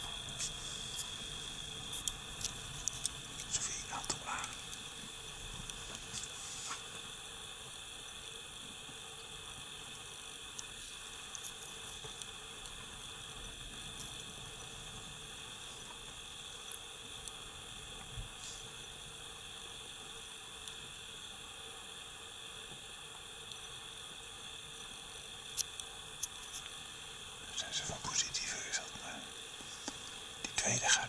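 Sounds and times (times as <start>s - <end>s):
insects buzzing: 0.0s - 31.0s.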